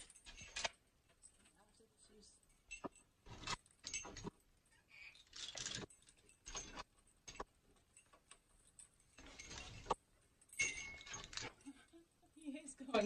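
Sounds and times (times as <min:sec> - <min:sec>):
metal chains jangling: 0:00.0 - 0:01.9, 0:02.5 - 0:12.0.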